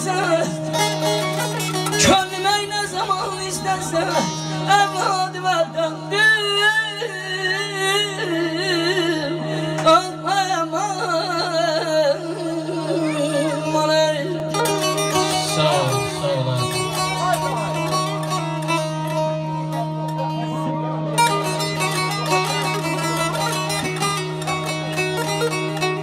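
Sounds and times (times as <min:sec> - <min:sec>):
folk melody with trills: 0:00.0 - 0:26.0.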